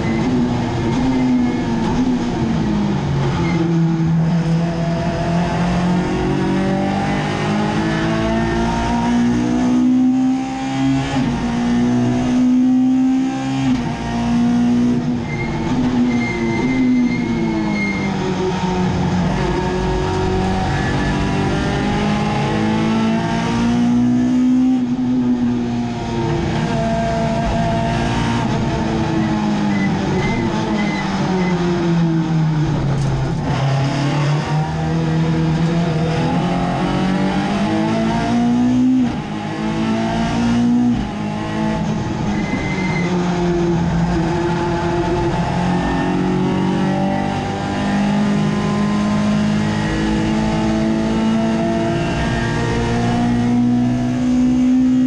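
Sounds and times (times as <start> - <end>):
race car engine from inside cabin: 0.0 - 55.0.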